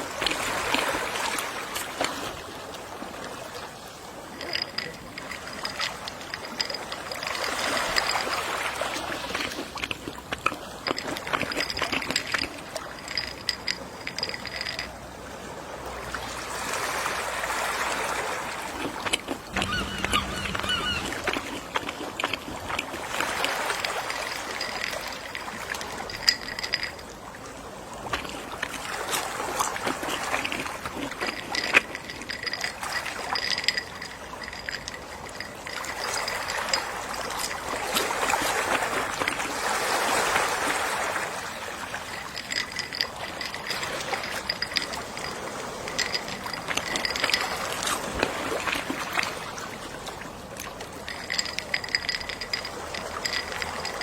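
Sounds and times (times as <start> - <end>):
gentle sea waves washing ashore: 0.0 - 54.0.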